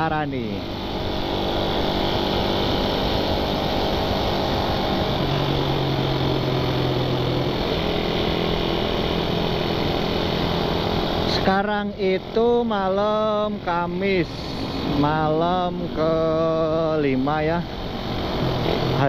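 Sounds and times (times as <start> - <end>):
motorcycle engine running: 0.0 - 19.0
wind and road noise: 0.0 - 19.0.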